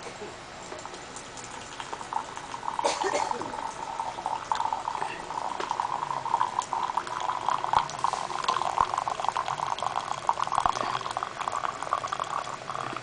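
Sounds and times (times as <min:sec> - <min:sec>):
water pouring into ceramic mug: 0:00.7 - 0:02.8, 0:03.4 - 0:13.0.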